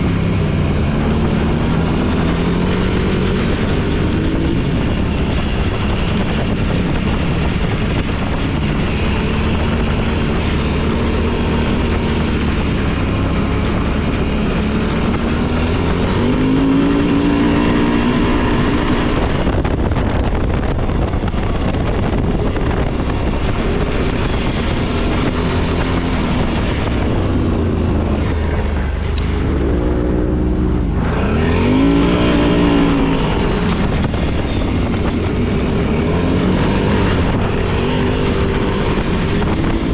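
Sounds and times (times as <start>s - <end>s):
off-road vehicle engine revving: 0.0s - 39.9s
steady rushing noise: 0.0s - 39.9s.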